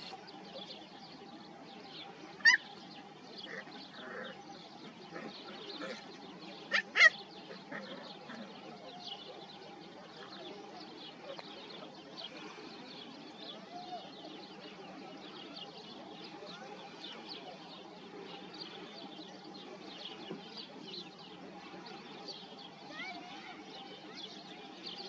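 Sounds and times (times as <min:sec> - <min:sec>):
low outdoor background noise: 0:00.0 - 0:25.0
small birds chirping: 0:00.0 - 0:25.0.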